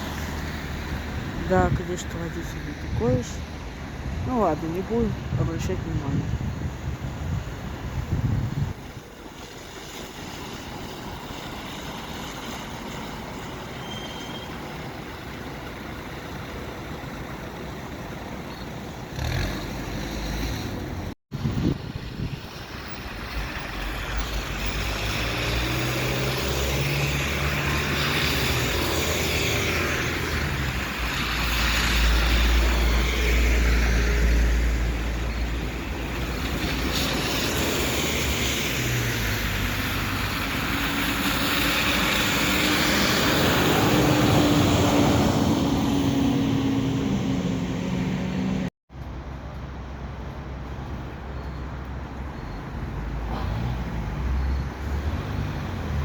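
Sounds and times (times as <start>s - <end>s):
buses pulling away and passing: 0.0s - 56.0s
street traffic noise: 0.0s - 56.0s.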